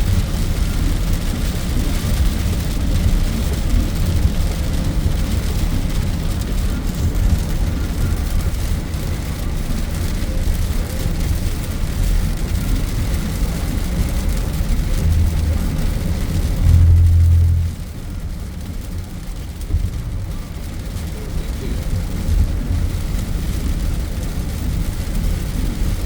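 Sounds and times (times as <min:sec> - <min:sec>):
heavy rain hissing: 0:00.0 - 0:26.0
unsteady low rumble: 0:00.0 - 0:26.0.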